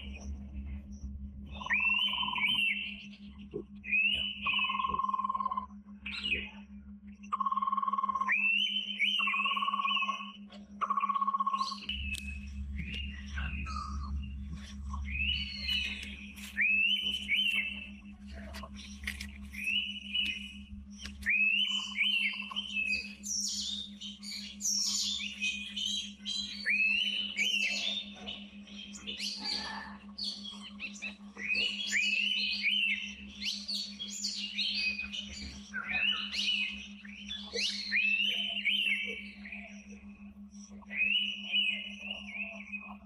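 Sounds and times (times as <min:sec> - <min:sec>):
steady low hum: 0:00.0 - 0:43.0
bird whistled calls: 0:01.5 - 0:03.1, 0:03.8 - 0:06.6, 0:07.4 - 0:18.0, 0:19.5 - 0:28.2, 0:30.3 - 0:40.0, 0:40.7 - 0:43.0
other birds chirping: 0:01.5 - 0:43.0.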